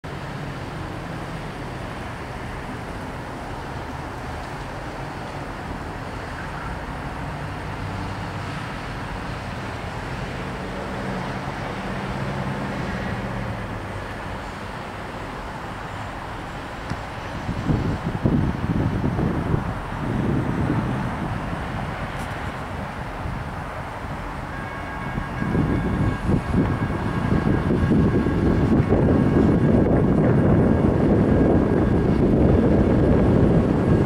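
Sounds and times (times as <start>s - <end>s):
car engines and tyre noise: 0.0s - 34.0s
low engine hum: 0.0s - 34.0s.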